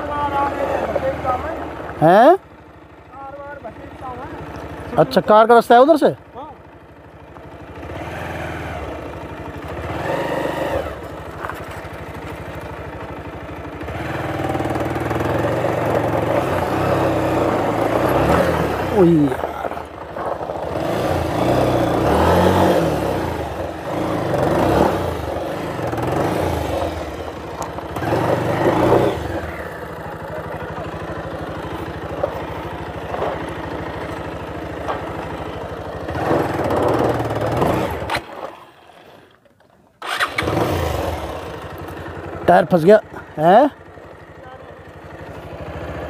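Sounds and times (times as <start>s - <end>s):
motorcycle engine revving: 0.0s - 39.4s, 40.0s - 46.0s.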